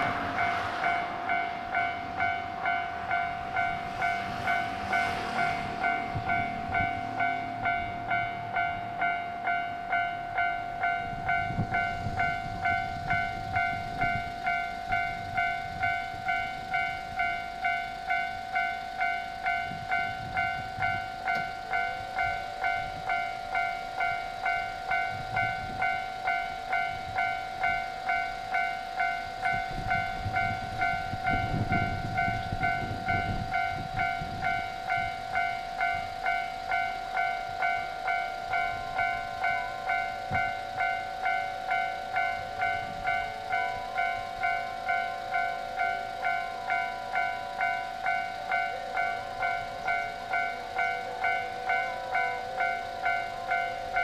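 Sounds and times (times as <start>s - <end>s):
level crossing bell ringing: 0.0s - 54.0s.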